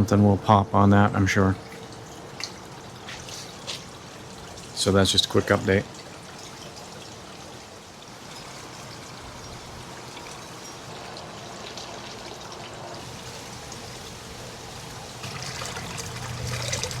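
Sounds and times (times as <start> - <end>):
water running and trickling: 1.5 - 17.0.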